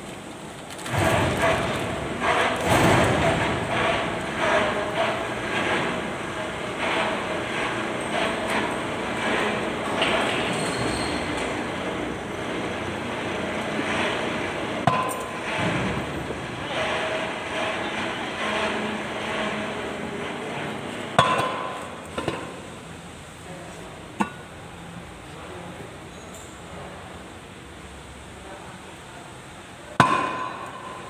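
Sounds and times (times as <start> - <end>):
steady background noise: 0.0 - 31.0.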